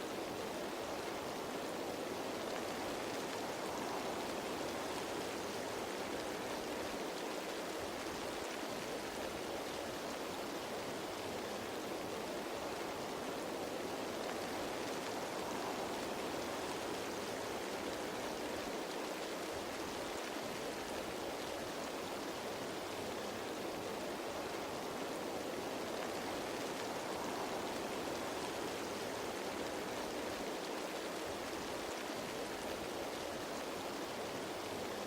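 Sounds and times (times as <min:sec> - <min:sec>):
rain falling on leaves: 0:00.0 - 0:35.0.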